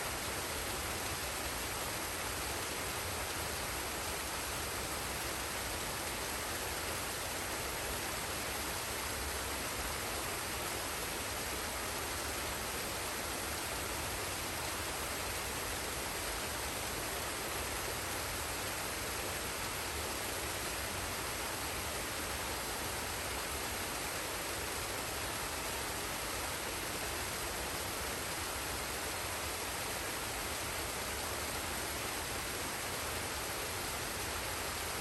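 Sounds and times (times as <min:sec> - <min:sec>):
waterfall and stream rushing: 0:00.0 - 0:35.0.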